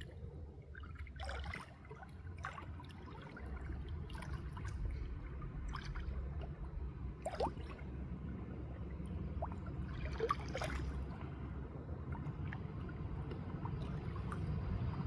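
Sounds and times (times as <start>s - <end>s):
small water splashes: 0.0s - 15.0s
water trickling and gurgling: 0.0s - 15.0s.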